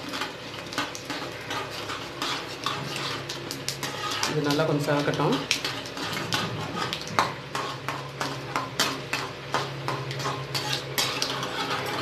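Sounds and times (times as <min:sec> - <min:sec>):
metal spatula scraping a pan: 0:00.0 - 0:12.0
seeds sizzling in oil: 0:00.0 - 0:12.0.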